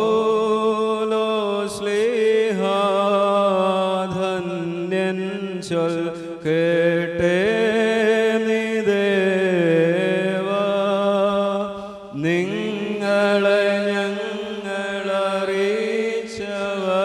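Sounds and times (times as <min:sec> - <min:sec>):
man chanting a hymn: 0:00.0 - 0:17.0.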